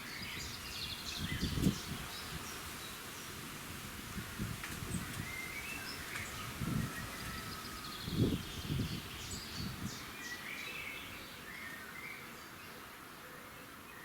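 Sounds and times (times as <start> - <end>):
songbirds chirping and trilling: 0.0 - 3.3, 4.9 - 14.0.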